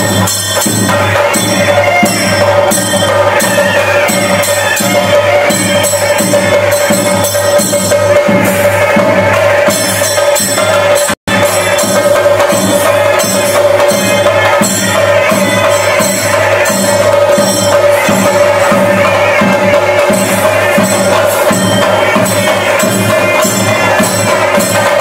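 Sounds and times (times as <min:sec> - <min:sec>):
drums playing fast rhythm: 0:00.0 - 0:25.0
jingling cymbals: 0:00.0 - 0:25.0.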